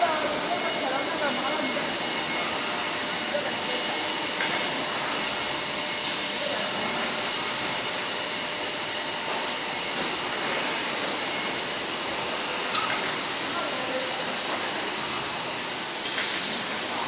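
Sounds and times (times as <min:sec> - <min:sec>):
falling machine whine: 0:00.0 - 0:13.8
faint steady machine whines: 0:00.0 - 0:17.0
machinery mechanical hiss: 0:00.0 - 0:17.0.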